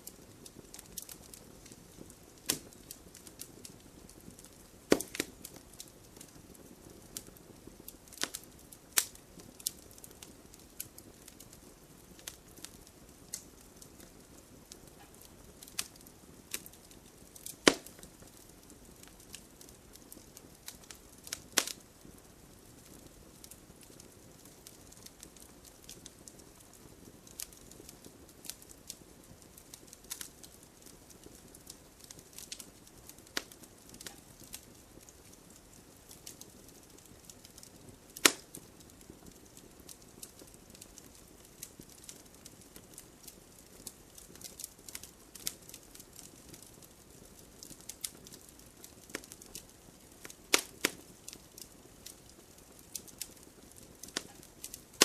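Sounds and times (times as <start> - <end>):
fire pops: 0.0 - 55.0
low rumble of flame: 0.0 - 55.0
wood fire crackling: 0.0 - 55.0.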